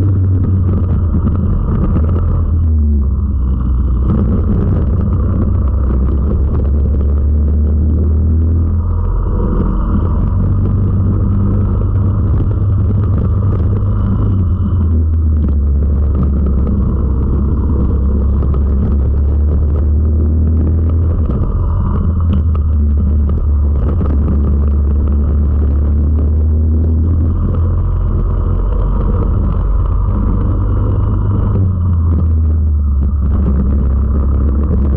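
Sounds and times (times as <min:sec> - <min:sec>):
kart engine running hard: 0:00.0 - 0:34.9.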